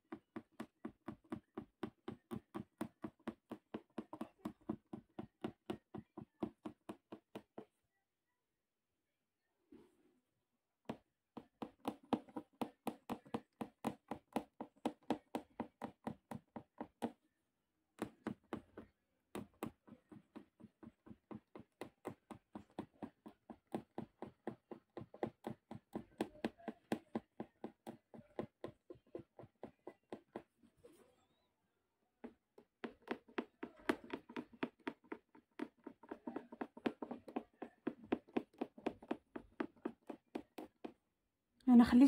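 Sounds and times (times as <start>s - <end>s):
punch needle tapping through fabric: 0.0s - 7.8s, 10.8s - 30.7s, 32.2s - 42.0s.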